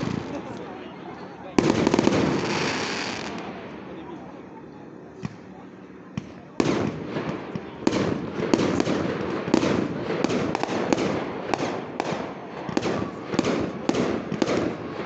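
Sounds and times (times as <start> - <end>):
continuous background noise: 0.0 - 15.0.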